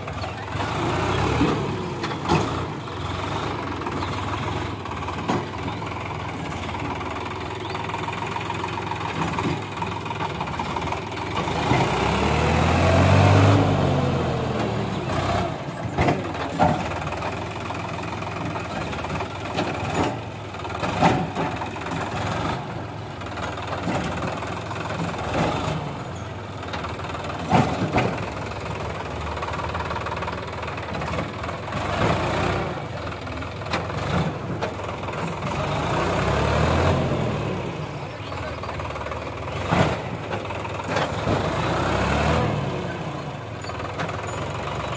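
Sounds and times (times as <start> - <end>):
tractor diesel engine revving: 0.0 - 44.9.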